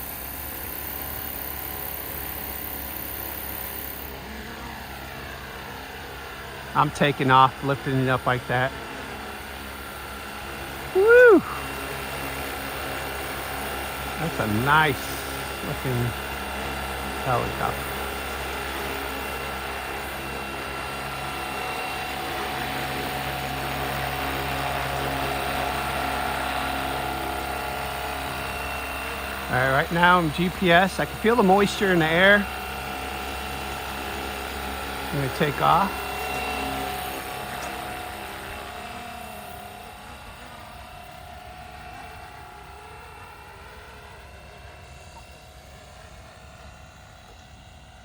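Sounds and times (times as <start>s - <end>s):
electric motor whine: 0.0s - 48.0s
spinning rotor blades: 0.0s - 48.0s
steady whine: 0.0s - 48.0s.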